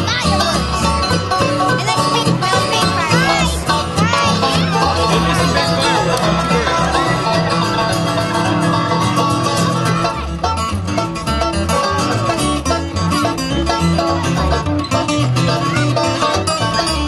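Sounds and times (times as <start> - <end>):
bluegrass banjo and guitar music: 0.0 - 17.0.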